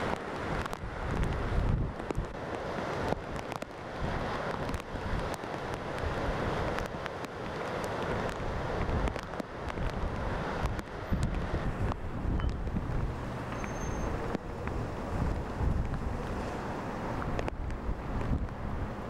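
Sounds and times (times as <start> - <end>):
wind gusting on microphone: 0.0 - 19.0.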